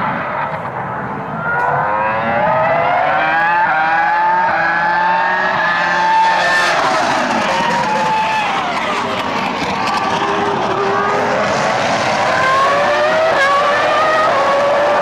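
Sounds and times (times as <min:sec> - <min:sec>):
racing car engine accelerating: 0:00.0 - 0:15.0
second racing car: 0:00.0 - 0:15.0.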